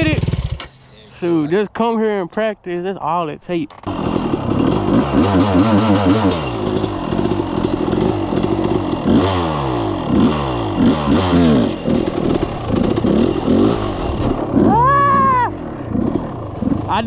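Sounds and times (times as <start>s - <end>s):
quad engine revving: 0.0s - 0.8s, 3.7s - 17.0s.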